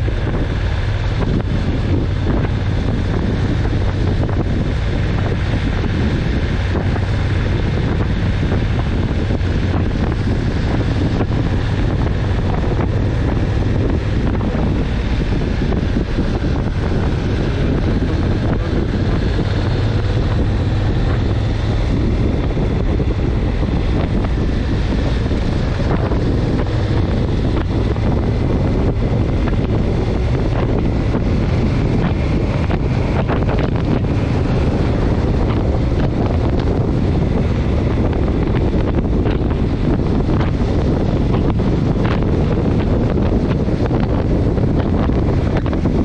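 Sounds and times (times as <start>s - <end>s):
low rumble: 0.0s - 46.0s
wind buffeting microphone: 0.0s - 46.0s.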